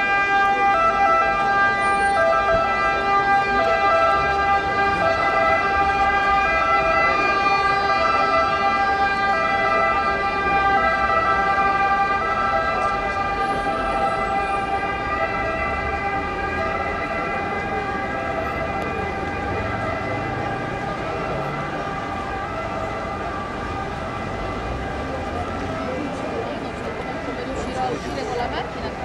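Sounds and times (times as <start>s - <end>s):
street noise: 0.0s - 29.0s.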